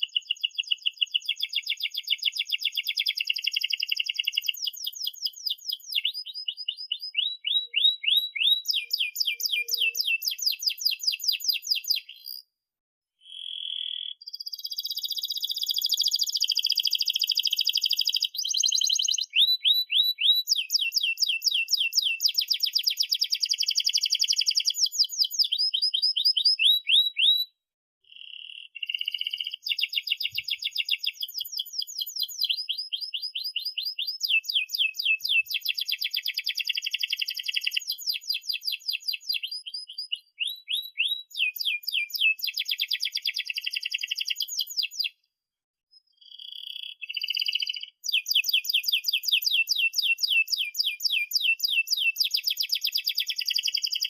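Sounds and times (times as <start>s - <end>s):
canary singing trills: 0.0s - 12.5s, 13.2s - 27.5s, 28.1s - 45.2s, 45.9s - 54.0s.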